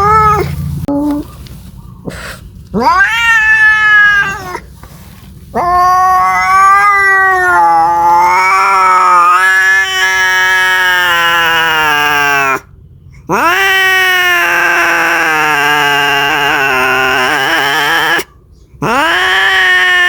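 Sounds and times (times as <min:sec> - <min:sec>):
cat yowling: 0:00.0 - 0:01.3, 0:02.8 - 0:04.7, 0:05.5 - 0:12.7, 0:13.3 - 0:20.0.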